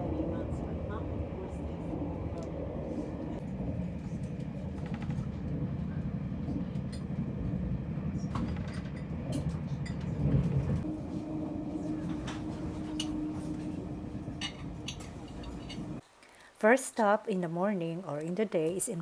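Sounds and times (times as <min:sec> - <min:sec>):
steady hum: 0:00.0 - 0:16.0
train rumbling: 0:00.0 - 0:16.0.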